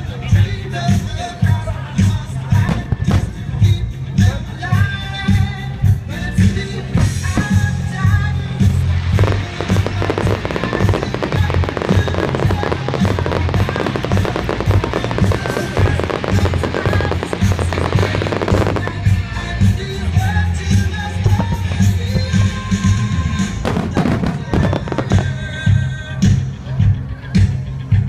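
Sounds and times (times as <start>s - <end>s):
loud music with heavy bass beat: 0.0s - 28.0s
fireworks crackling: 2.0s - 5.5s, 6.3s - 26.0s.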